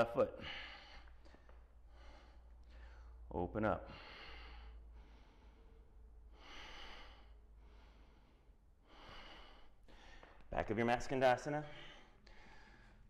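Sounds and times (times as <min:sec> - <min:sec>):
man breathing: 0:00.3 - 0:10.5, 0:11.5 - 0:13.0.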